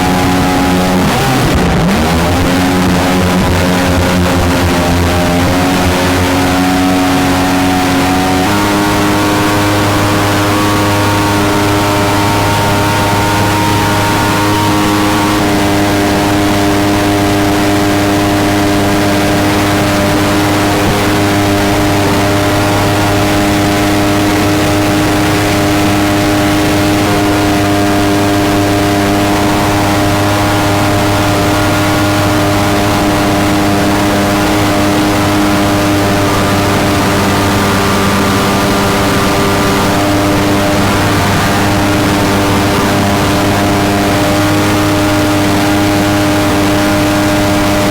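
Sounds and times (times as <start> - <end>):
boat engine running steadily: 0.0 - 47.9.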